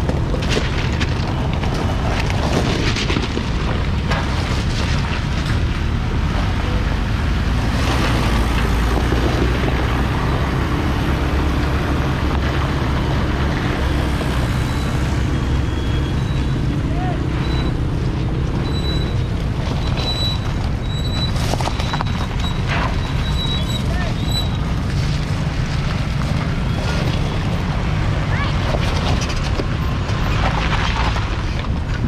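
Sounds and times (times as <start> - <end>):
vehicle engines running: 0.0 - 32.0.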